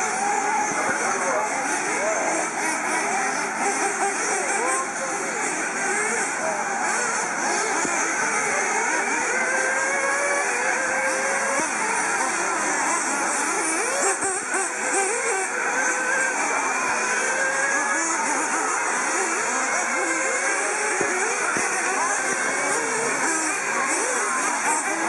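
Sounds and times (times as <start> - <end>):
small racing engines: 0.0 - 25.0.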